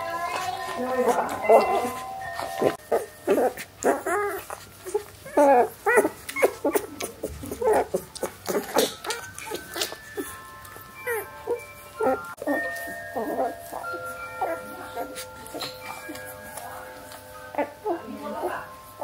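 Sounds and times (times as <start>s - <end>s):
puppies crying and whimpering: 0.0s - 19.0s.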